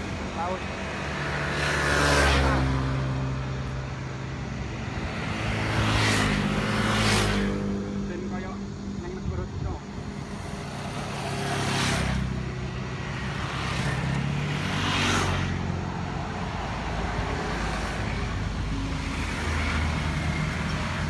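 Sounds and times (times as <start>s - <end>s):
scooters driving past: 0.0s - 8.6s, 10.0s - 21.0s.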